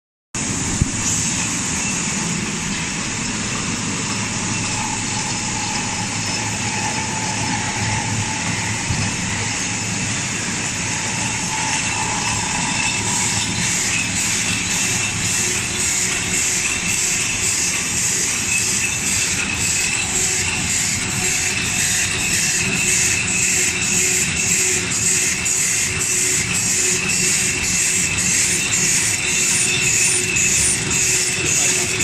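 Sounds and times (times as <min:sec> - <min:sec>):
faint machine whine: 0:00.4 - 0:32.0
packing machine running: 0:00.4 - 0:32.0.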